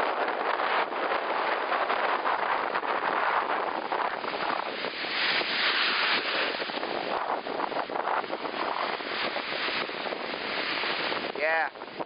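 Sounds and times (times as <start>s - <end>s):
lake waves breaking on shore: 0.0s - 12.0s
wind buffeting microphone: 0.0s - 12.0s.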